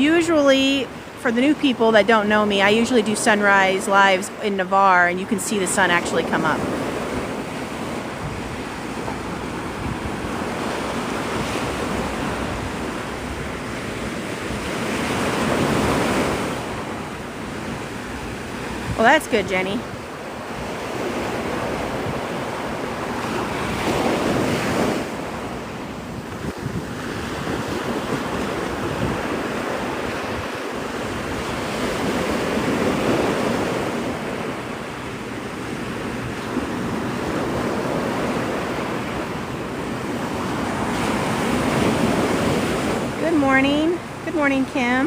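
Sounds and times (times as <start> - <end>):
surf breaking on beach: 0.0 - 45.0
wind buffeting microphone: 0.0 - 45.0.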